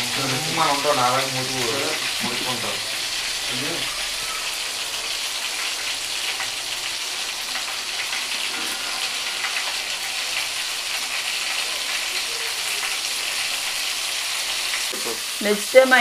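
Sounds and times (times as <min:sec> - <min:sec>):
hot oil sizzling in a pan: 0:00.0 - 0:16.0.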